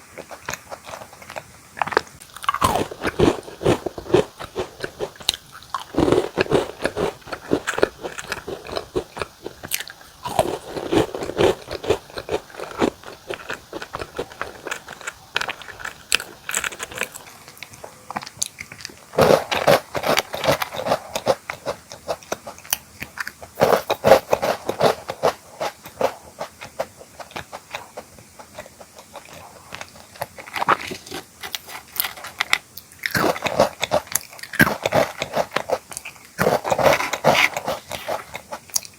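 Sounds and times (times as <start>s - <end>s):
crunchy cookie being chewed: 0.0s - 38.9s.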